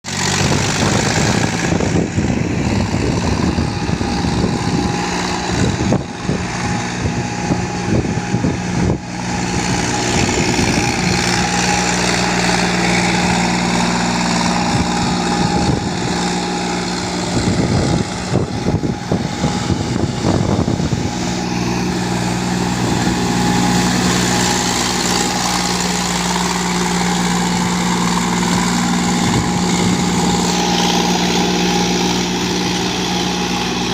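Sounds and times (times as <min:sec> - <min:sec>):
tractor diesel engine running: 0:00.0 - 0:33.9
uneven engine clatter: 0:00.0 - 0:33.9.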